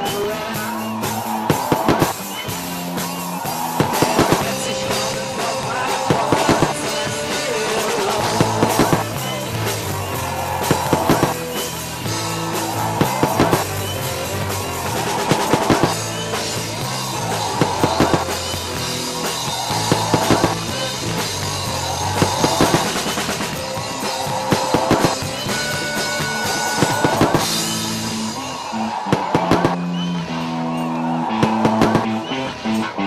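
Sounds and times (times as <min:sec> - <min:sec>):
bass line: 0:00.0 - 0:33.0
drum kit music: 0:00.0 - 0:33.0
quick drum hits: 0:01.0 - 0:07.0, 0:08.2 - 0:28.0, 0:28.9 - 0:29.9, 0:31.3 - 0:32.3.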